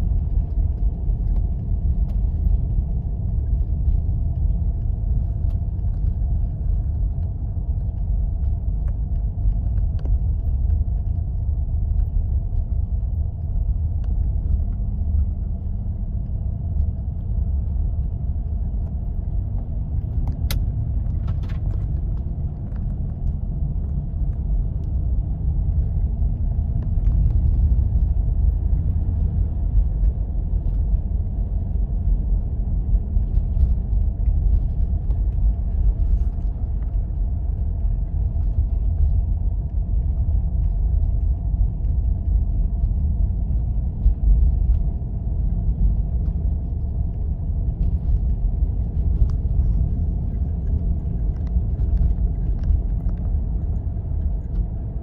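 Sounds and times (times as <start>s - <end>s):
vehicle driving on snowy road: 0.0s - 55.0s.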